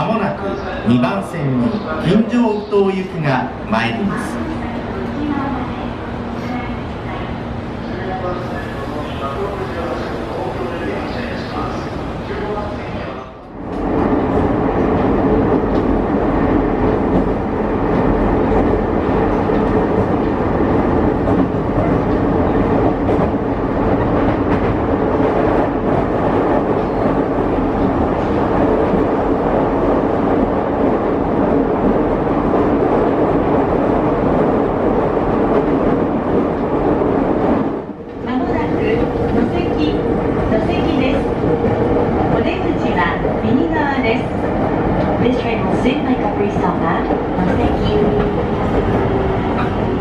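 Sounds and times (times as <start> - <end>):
constant train hum: 0.0 - 50.0
train wheels rumbling on rail: 1.7 - 50.0.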